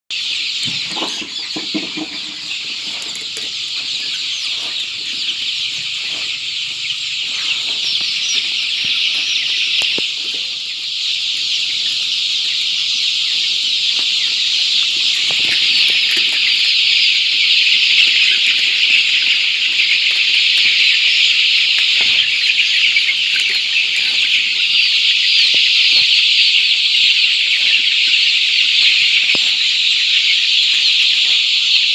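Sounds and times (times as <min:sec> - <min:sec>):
chicks peeping in chorus: 0:00.1 - 0:31.9.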